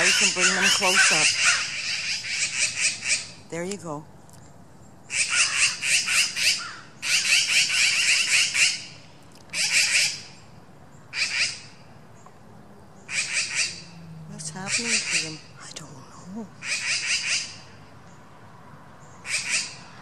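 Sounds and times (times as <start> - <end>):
birds calling harshly: 0.0 - 20.0.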